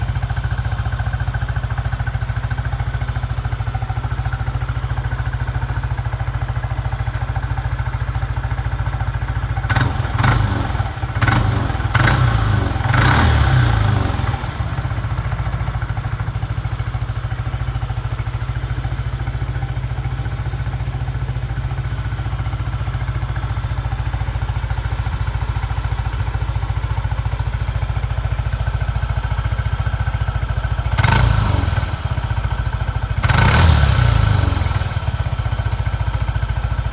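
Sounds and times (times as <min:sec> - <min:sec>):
scooter engine idling: 0:00.0 - 0:36.9.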